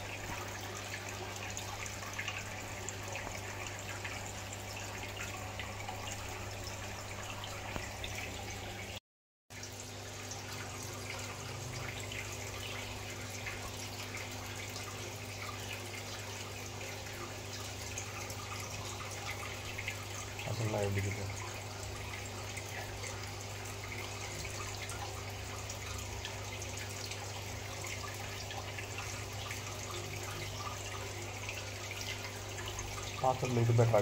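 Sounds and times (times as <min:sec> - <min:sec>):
water trickling and dripping: 0:00.0 - 0:34.0.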